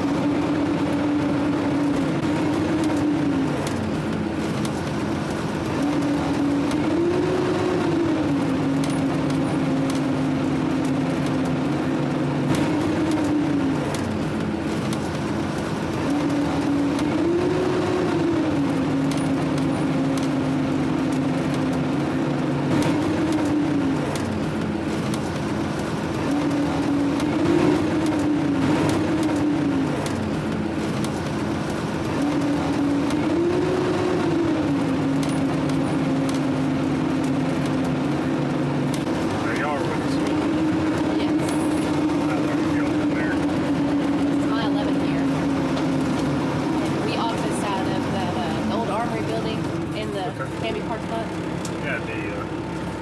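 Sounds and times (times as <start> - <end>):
road rumble: 0.0 - 53.0
truck diesel engine revving: 0.0 - 53.0.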